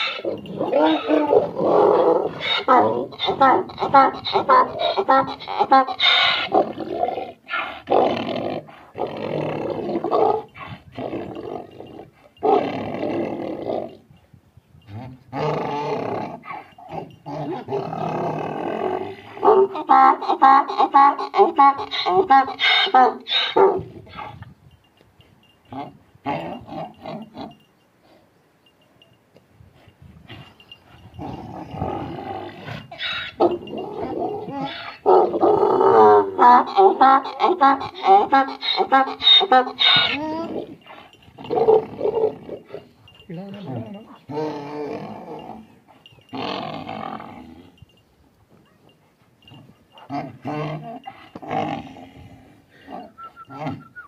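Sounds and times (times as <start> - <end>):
donkey braying: 0.0 - 14.0, 14.9 - 24.4, 25.7 - 27.6, 30.3 - 47.8, 48.6 - 54.0.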